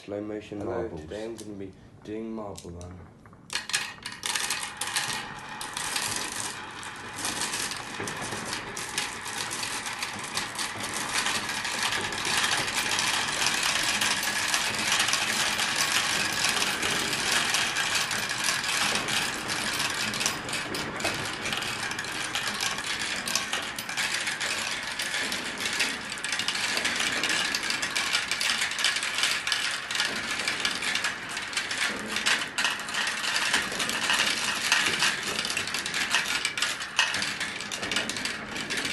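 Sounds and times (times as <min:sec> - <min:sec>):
marbles clattering down a marble run: 0:03.5 - 0:38.9.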